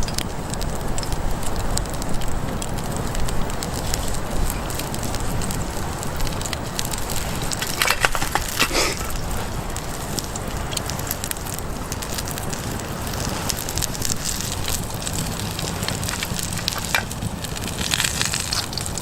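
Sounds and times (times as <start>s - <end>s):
campfire crackling: 0.0s - 19.0s
fire pops and snaps: 0.0s - 19.0s.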